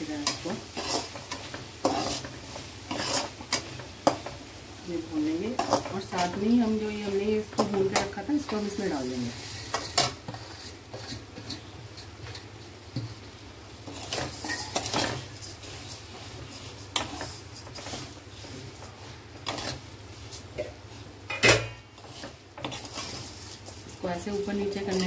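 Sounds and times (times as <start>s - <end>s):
metal spatula scraping a pan: 0.1s - 4.4s, 5.4s - 12.4s, 13.8s - 25.0s.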